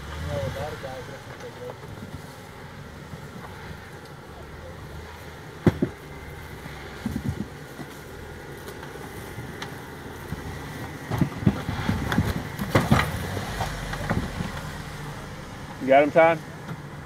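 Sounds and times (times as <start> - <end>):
car engine running at low revs: 0.0 - 17.0
knocks and clunks over boulders: 0.0 - 17.0.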